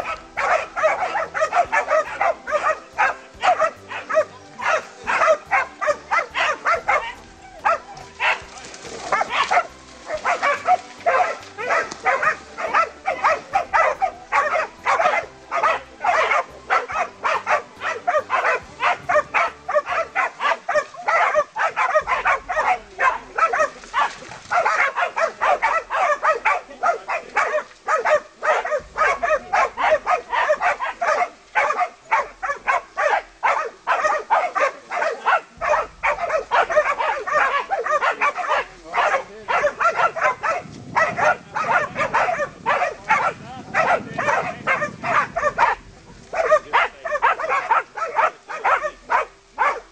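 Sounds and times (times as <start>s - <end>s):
dogs barking rapidly: 0.0s - 49.9s.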